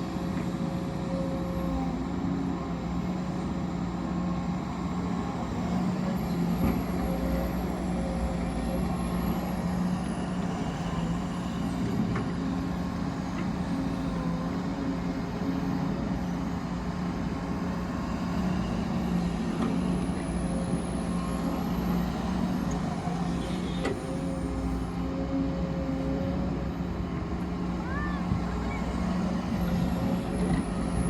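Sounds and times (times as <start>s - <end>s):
diesel machinery engine drone: 0.0s - 31.0s.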